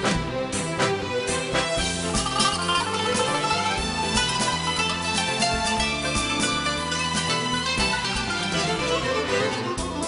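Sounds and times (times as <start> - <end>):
tv theme music with steady beat: 0.0 - 10.0.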